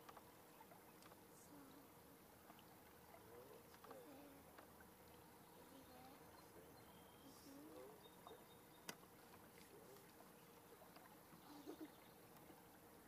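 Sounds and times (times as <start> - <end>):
faint wavering calls: 0.5 - 13.0.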